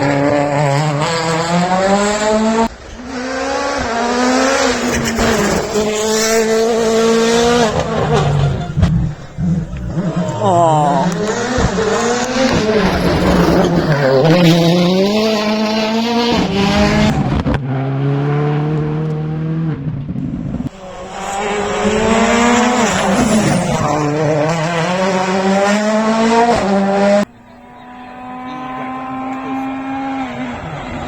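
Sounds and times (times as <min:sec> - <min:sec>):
rally car engines at hard throttle: 0:00.0 - 0:31.0.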